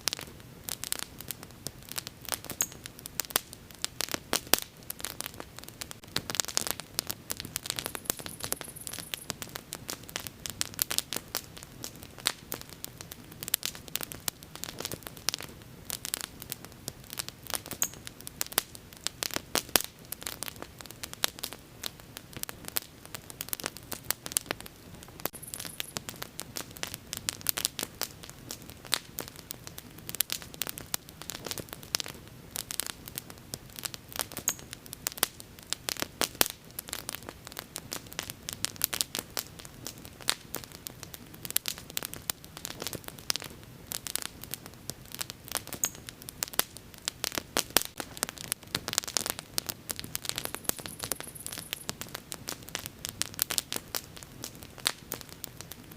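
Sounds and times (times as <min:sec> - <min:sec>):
low steady fire hiss: 0:00.0 - 0:55.9
wood fire crackling: 0:00.0 - 0:55.9.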